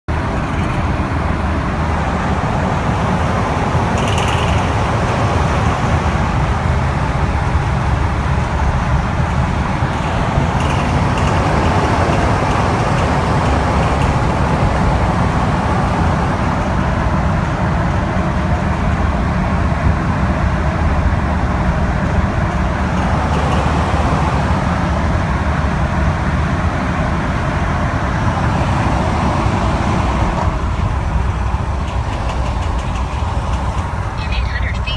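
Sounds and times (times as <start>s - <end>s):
diesel engine knocking: 0.1s - 34.9s.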